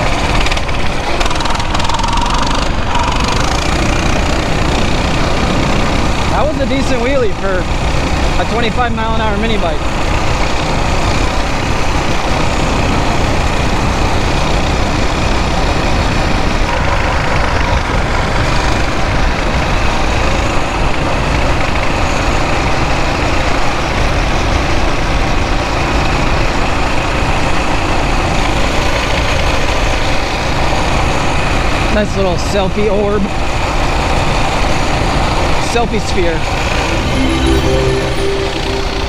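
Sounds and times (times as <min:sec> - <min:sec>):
mini bike engine running: 0:00.0 - 0:36.0.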